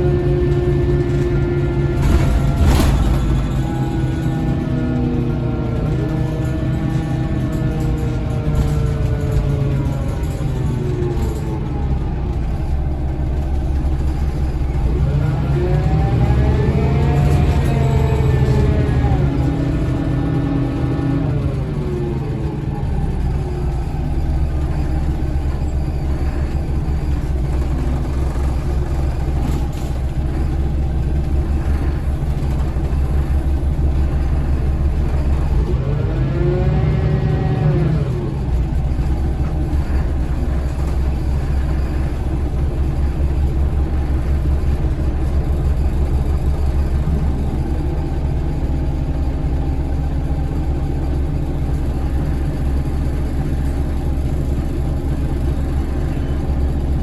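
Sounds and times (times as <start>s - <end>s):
bus diesel engine rumble: 0.0s - 57.0s.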